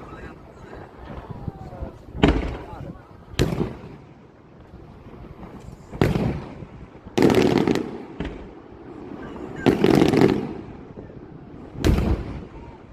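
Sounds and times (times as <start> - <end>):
fireworks exploding: 0.0 - 12.9.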